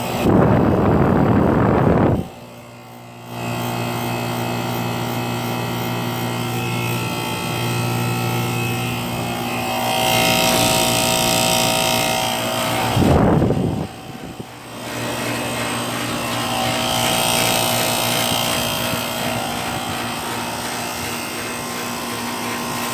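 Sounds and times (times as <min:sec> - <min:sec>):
air conditioner humming: 0:00.0 - 0:22.9.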